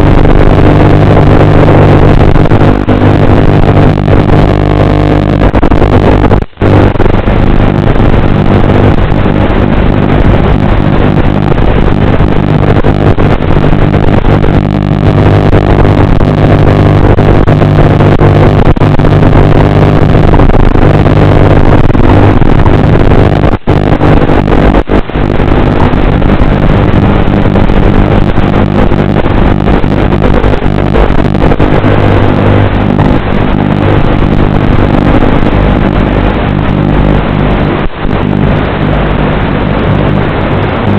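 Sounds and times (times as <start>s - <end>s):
drone propellers buzzing: 0.0s - 40.9s.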